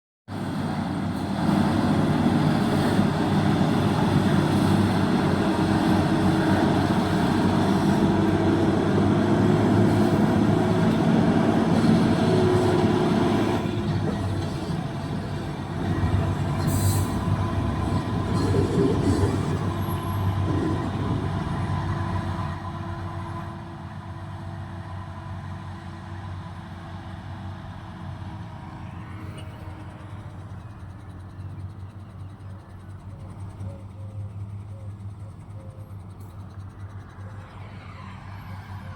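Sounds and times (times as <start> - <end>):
trailer rolling noise: 0.3 - 38.9
truck diesel engine drone: 0.3 - 38.9.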